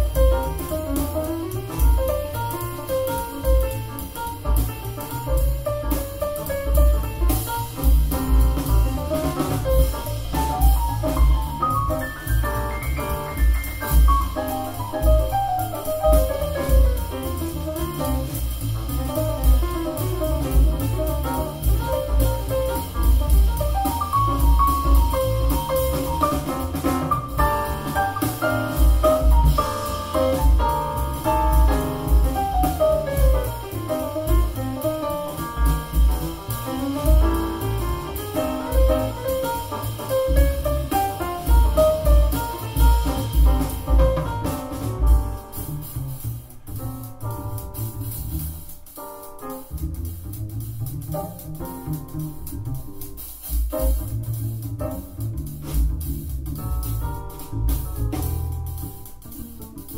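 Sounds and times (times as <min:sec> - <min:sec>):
instrumental jazz through speakers: 0:00.0 - 0:59.9.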